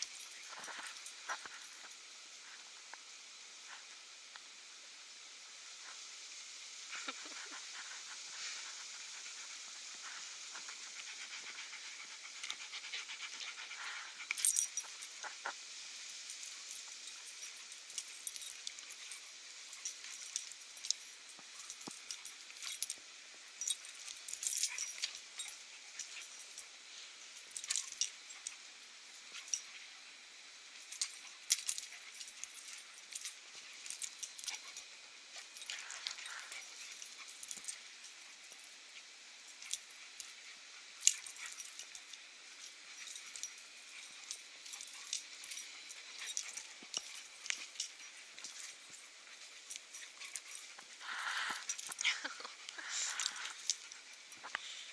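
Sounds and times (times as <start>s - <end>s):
steady hiss: 0.0s - 54.9s.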